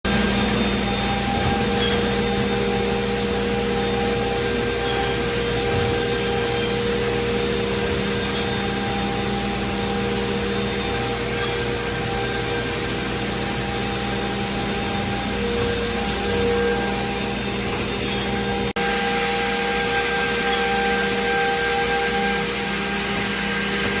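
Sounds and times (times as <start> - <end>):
router spindle whine: 0.1 - 24.0
rushing vacuum-like noise: 0.1 - 24.0.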